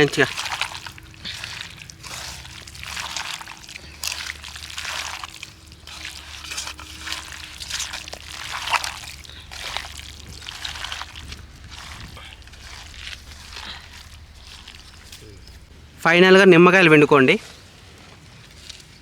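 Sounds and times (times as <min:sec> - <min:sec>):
wet squelching mixing: 0:00.0 - 0:19.0.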